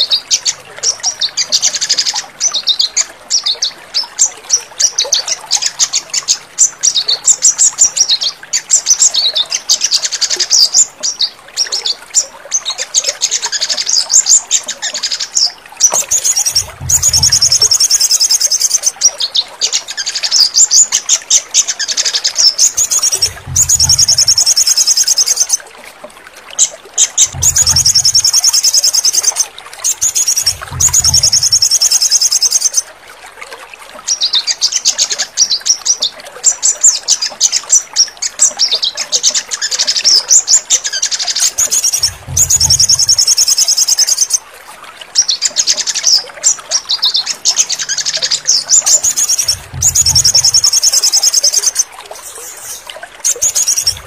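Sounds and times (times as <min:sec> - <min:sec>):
songbird chirping and trilling: 0:00.0 - 0:25.6, 0:26.6 - 0:32.9, 0:34.1 - 0:44.5, 0:45.2 - 0:54.0.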